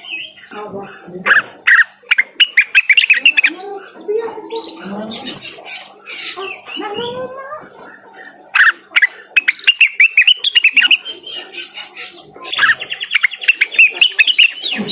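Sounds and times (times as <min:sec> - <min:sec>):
soft bird twittering: 0:01.3 - 0:14.9.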